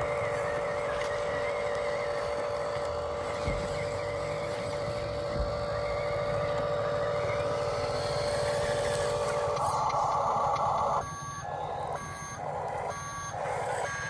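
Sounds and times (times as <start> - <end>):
toy excavator motor whine: 0.0 - 14.0.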